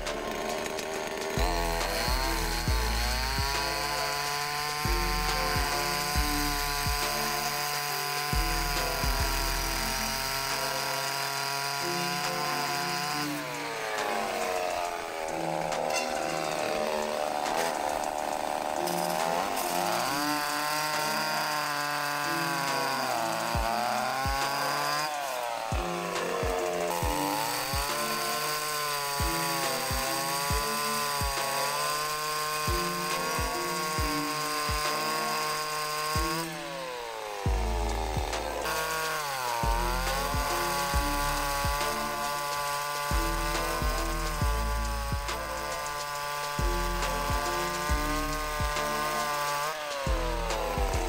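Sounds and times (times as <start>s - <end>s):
background music with bass: 0.0s - 35.4s, 36.0s - 51.0s
cut-off disc cutting steel: 0.0s - 51.0s.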